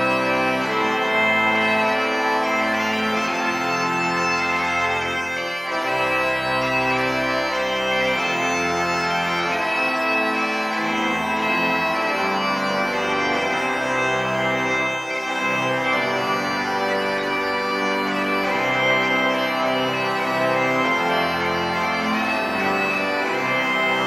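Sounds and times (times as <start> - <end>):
bagpipe melody: 0.0 - 24.0
pipe organ chords: 0.0 - 24.0.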